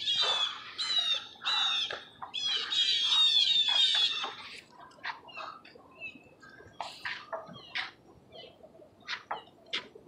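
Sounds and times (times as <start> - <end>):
bird high-pitched calls: 0.0 - 9.9.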